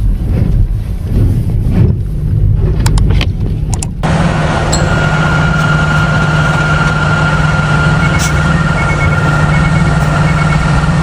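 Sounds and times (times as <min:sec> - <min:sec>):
vehicle engine running: 0:01.0 - 0:11.0.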